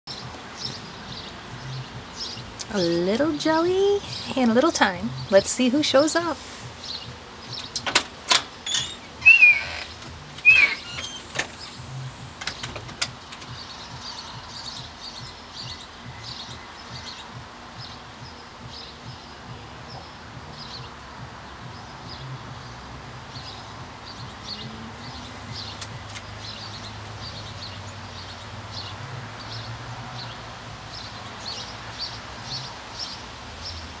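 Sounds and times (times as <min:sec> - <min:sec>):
songbirds chirping: 0:00.1 - 0:34.0.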